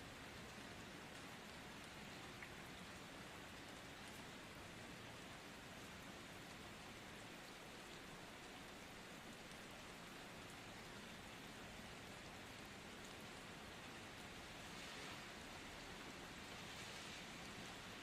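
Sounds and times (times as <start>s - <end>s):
steady soft rain: 0.0s - 18.0s.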